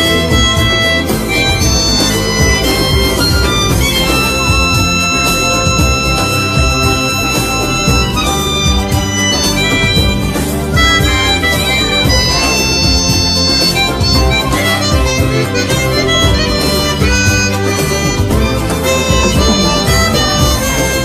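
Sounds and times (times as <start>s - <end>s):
backing music with a beat: 0.0s - 21.0s
harmonica melody: 0.0s - 21.0s.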